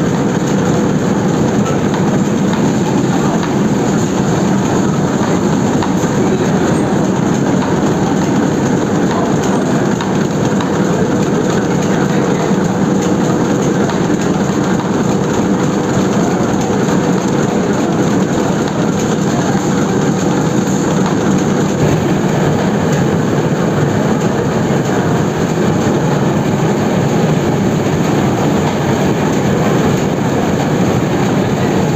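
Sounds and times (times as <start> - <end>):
printing press mechanical din: 0.0 - 31.9.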